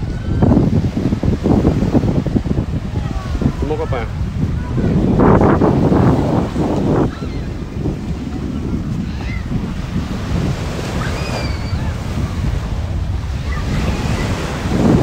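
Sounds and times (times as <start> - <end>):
surf washing on sand: 0.0 - 15.0
wind buffeting microphone: 0.0 - 15.0.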